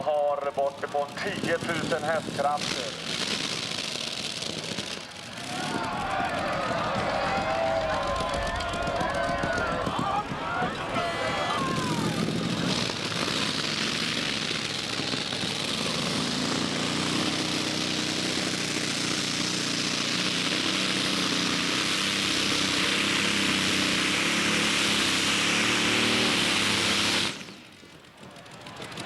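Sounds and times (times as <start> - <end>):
tractor engine at high revs: 0.0 - 29.0.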